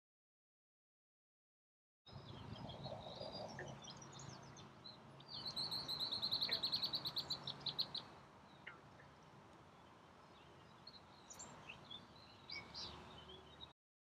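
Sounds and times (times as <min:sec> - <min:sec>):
faint low background rumble: 0:02.1 - 0:13.7
songbirds singing: 0:02.1 - 0:13.8.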